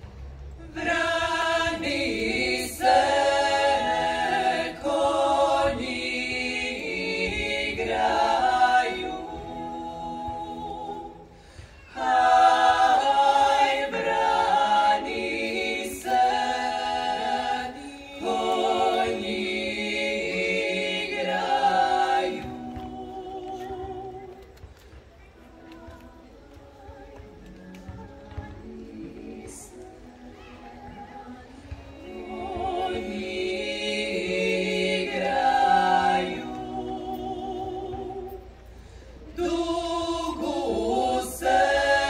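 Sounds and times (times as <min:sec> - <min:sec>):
women singing a cappella harmony: 0:00.6 - 0:24.8, 0:25.4 - 0:42.0.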